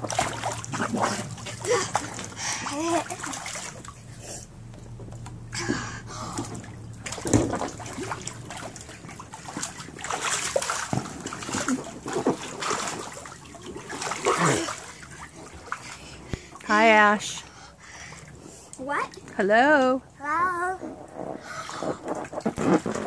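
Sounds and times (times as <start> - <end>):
pool water splashing: 0.0 - 23.0.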